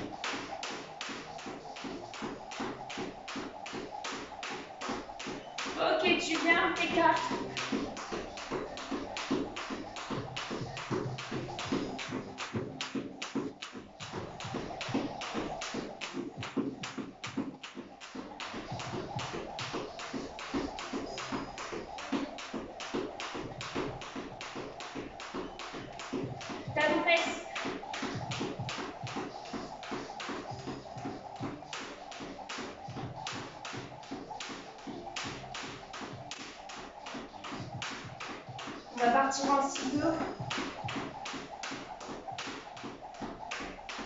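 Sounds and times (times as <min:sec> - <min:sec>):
skipping rope hitting tiled floor: 0:00.0 - 0:44.0.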